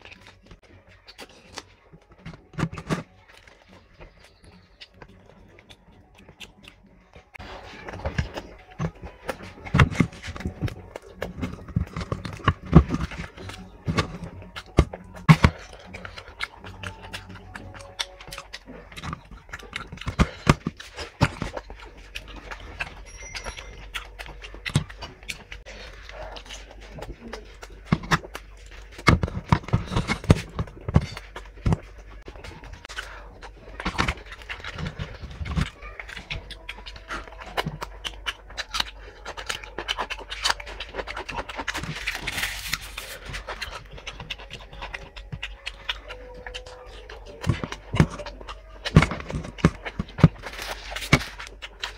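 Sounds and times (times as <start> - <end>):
fingers squishing food: 0.0 - 51.9
wet chewing and lip smacks: 0.0 - 51.9.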